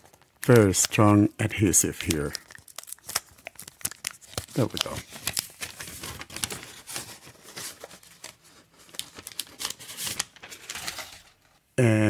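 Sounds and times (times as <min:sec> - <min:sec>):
paper wrapping crinkling and tearing: 0:00.0 - 0:11.6.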